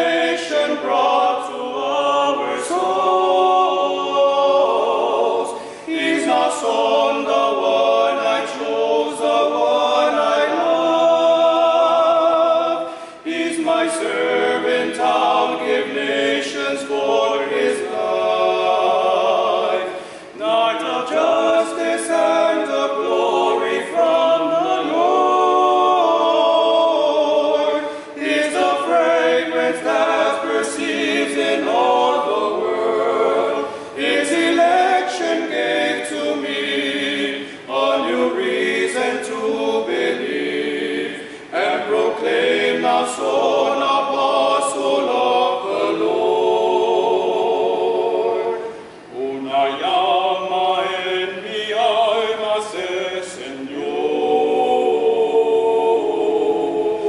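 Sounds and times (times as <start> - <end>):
men singing hymn a cappella: 0.0 - 57.0.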